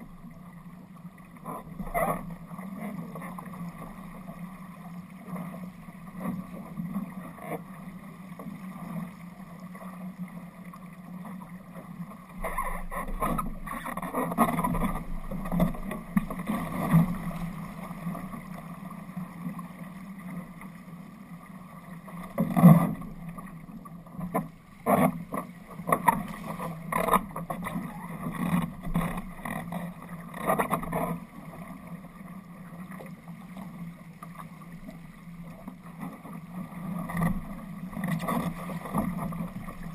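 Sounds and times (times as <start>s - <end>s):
water rushing against a hull: 0.0s - 39.9s.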